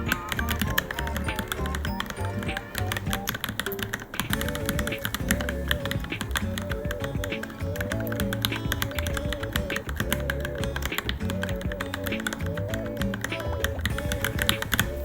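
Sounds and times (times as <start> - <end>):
background music melody: 0.0 - 15.0.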